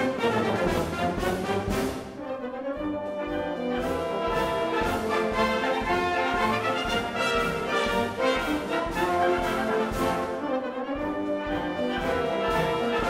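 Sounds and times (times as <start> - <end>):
orchestral brass music: 0.0 - 13.0.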